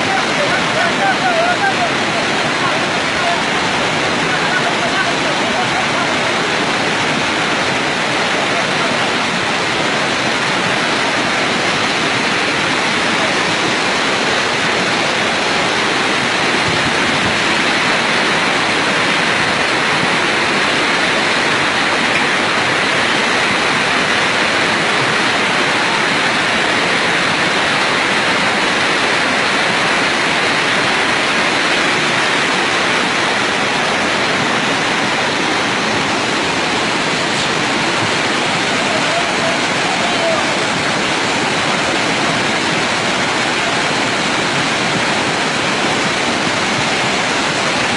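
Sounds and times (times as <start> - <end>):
river torrent rushing: 0.0 - 47.9.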